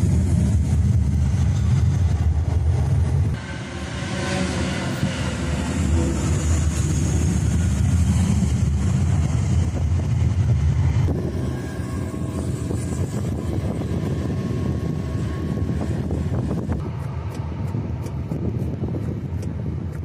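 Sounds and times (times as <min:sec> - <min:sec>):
airliner low rumble: 0:00.0 - 0:20.0.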